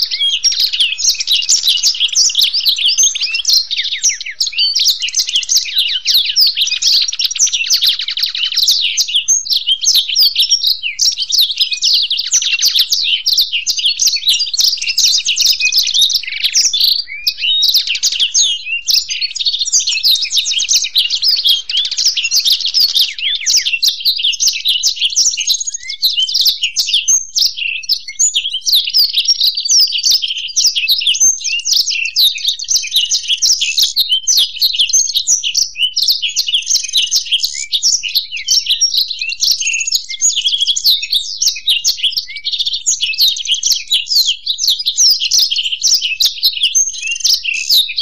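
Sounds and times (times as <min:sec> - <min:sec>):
canary singing: 0:00.0 - 0:48.0
goldfinch singing: 0:00.0 - 0:48.0.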